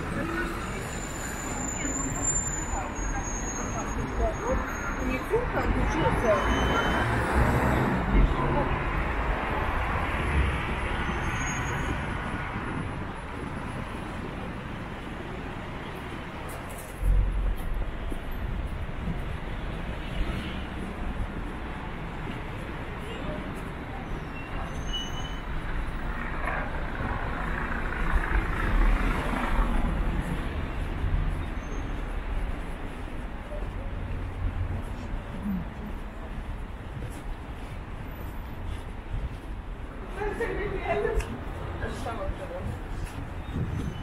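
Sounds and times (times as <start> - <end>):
low traffic rumble: 0.0 - 44.0.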